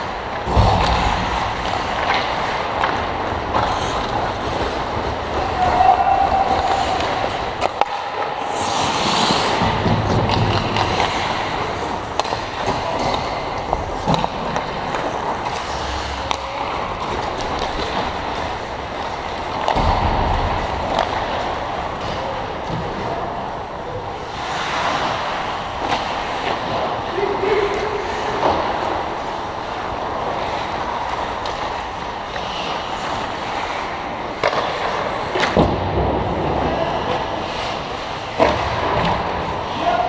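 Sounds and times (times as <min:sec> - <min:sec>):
skate blades scraping ice: 0:00.0 - 0:35.6, 0:36.4 - 0:40.0
hockey sticks and puck clacking: 0:00.0 - 0:40.0
skate stop scrape: 0:00.0 - 0:40.0.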